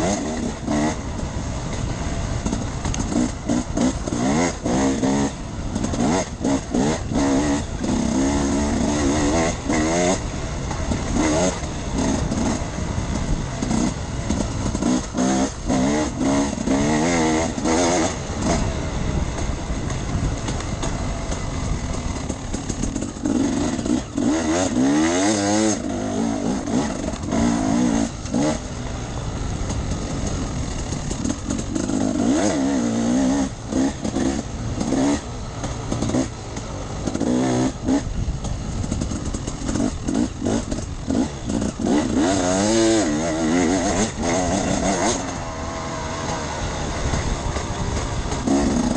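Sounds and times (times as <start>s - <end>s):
dense rushing noise: 0.0s - 48.9s
dirt bike engine revving: 0.0s - 48.9s.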